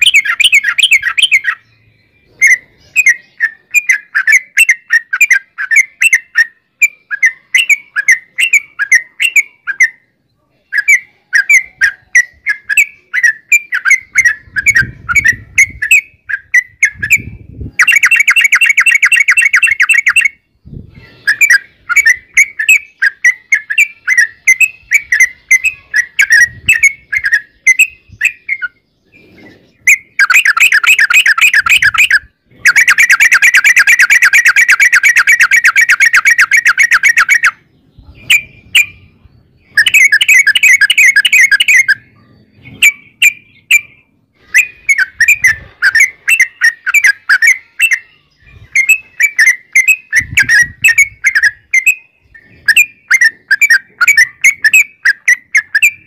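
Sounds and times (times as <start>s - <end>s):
bulbul chattering song: 0.0s - 56.0s.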